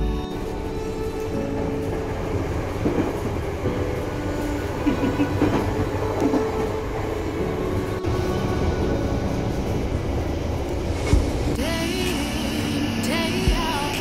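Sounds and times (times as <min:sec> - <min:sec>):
train rail running noise: 0:00.0 - 0:14.0.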